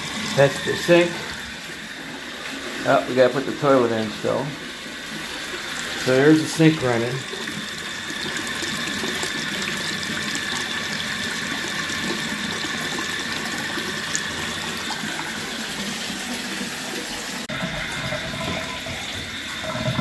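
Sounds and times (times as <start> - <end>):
faucet water running down drain: 0.0 - 20.0.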